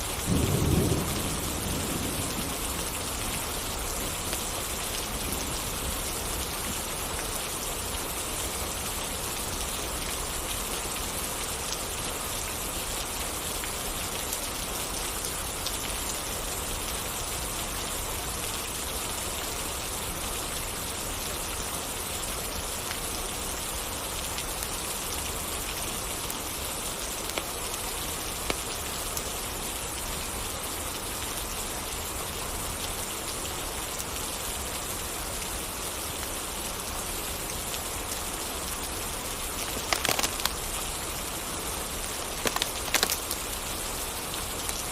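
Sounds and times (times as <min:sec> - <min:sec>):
steady rain hissing: 0:00.0 - 0:44.9.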